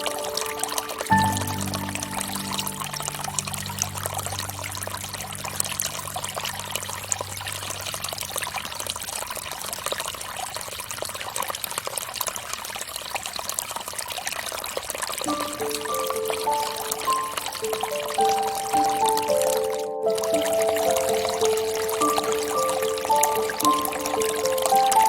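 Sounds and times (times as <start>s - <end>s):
fountain water trickling and splashing: 0.0s - 25.0s.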